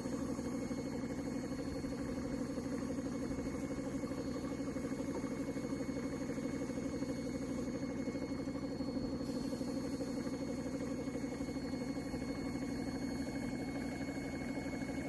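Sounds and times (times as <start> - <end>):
small motor pulsing drone: 0.0 - 15.0.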